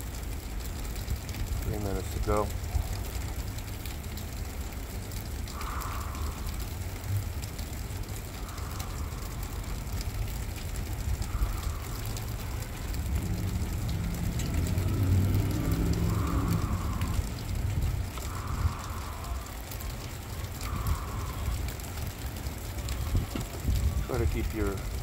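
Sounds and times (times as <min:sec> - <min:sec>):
wind buffeting microphone: 0:01.0 - 0:25.0
soft breaths: 0:02.0 - 0:24.9.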